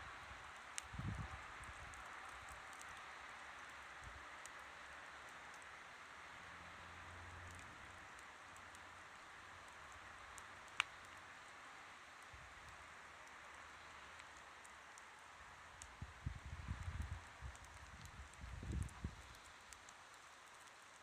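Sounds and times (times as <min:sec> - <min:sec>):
campfire hissing and crackling: 0:00.0 - 0:21.0.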